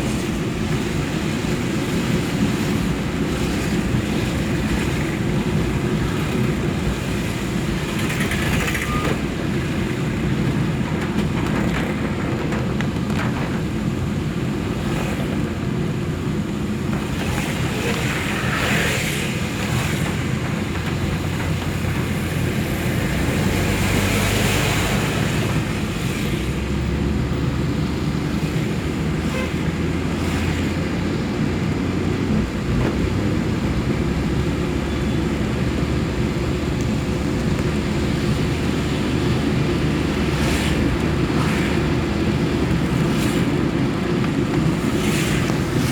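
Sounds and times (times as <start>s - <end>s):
traffic rumble: 0.0s - 45.9s
vehicles passing by: 0.0s - 45.9s.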